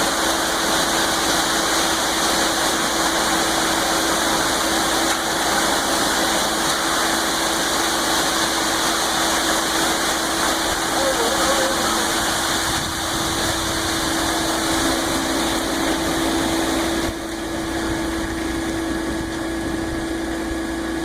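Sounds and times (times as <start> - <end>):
concrete mixer truck engine: 0.0 - 21.0.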